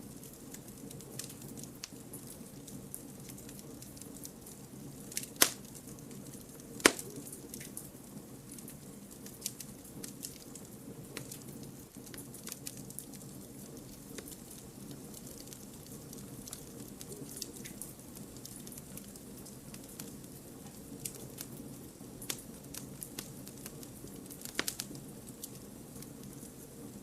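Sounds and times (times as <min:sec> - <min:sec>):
campfire flames rushing: 0:00.0 - 0:27.0
fire crackling and popping: 0:00.0 - 0:27.0.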